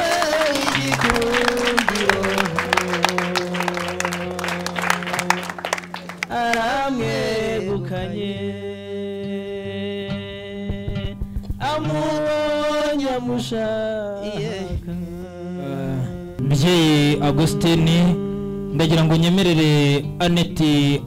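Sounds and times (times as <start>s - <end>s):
person singing long notes: 0.0s - 19.3s.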